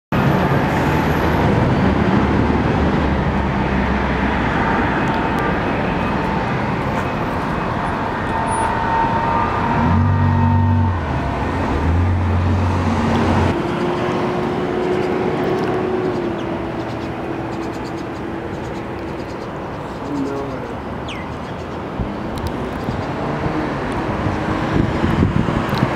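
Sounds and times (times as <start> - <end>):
passing vehicles rushing: 0.1 - 25.9.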